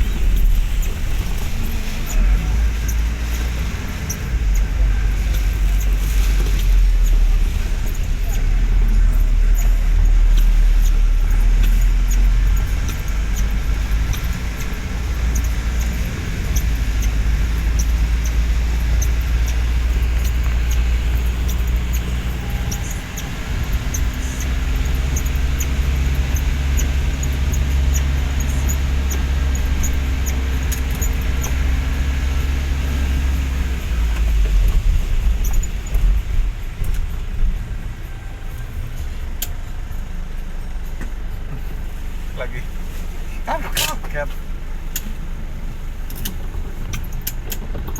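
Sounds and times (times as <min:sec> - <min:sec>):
raindrop ticks: 0:00.0 - 0:42.0, 0:42.6 - 0:47.9
rain hiss: 0:00.0 - 0:47.2
low engine hum: 0:00.0 - 0:47.9
road rumble: 0:00.0 - 0:47.9.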